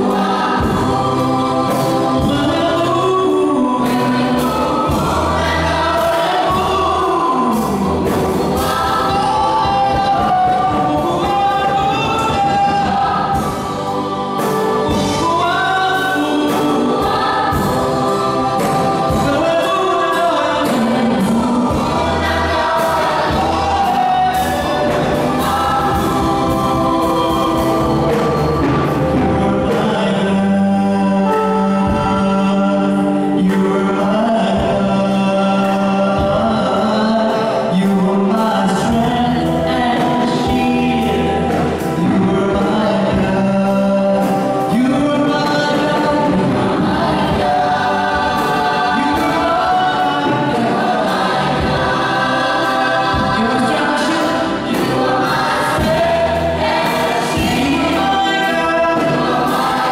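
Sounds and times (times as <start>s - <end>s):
instrumental accompaniment: 0.0s - 59.9s
women's choir singing gospel: 0.0s - 59.9s.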